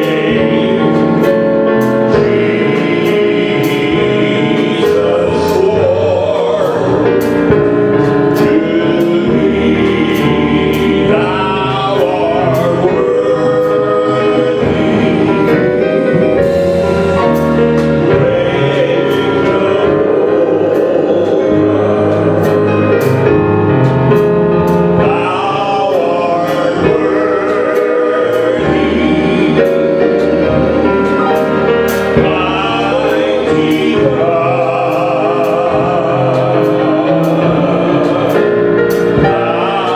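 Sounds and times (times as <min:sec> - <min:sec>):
instrumental accompaniment with beat: 0:00.0 - 0:39.9
voices singing gospel: 0:00.0 - 0:39.9.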